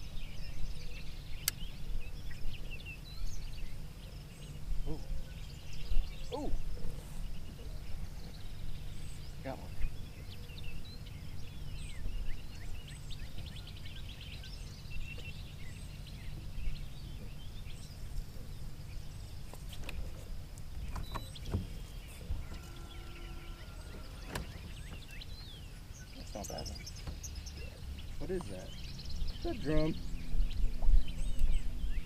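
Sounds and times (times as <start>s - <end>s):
birds chirping and calling: 0.0s - 32.0s
steady low rumble: 0.0s - 32.0s.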